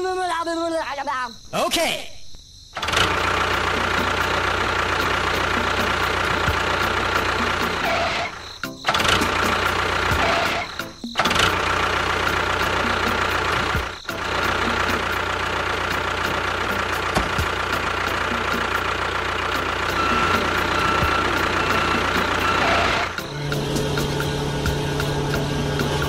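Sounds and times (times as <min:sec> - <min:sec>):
motor running: 0:02.8 - 0:26.0.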